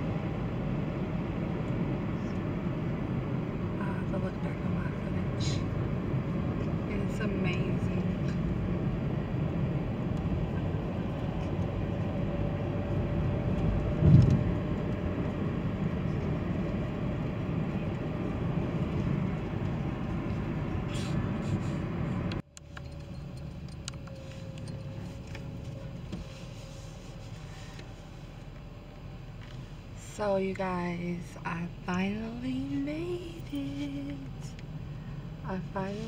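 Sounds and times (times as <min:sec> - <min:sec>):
car cabin road and engine noise: 0:00.0 - 0:36.0.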